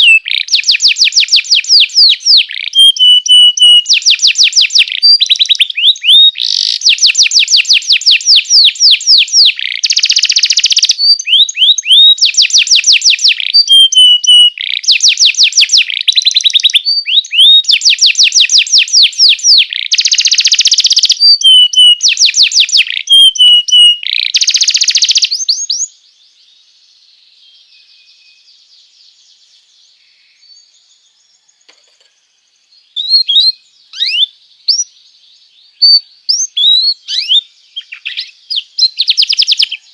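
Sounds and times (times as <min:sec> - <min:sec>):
canary singing trills: 0:00.0 - 0:39.9
short bird chirps: 0:00.0 - 0:39.9.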